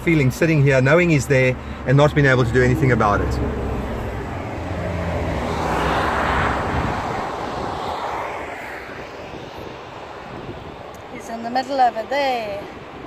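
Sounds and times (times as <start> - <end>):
vehicle passing at speed: 0.6 - 11.3.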